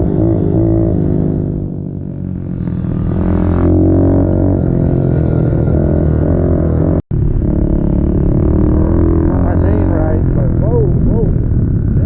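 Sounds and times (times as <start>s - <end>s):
small motorcycle engine droning: 0.0s - 12.0s.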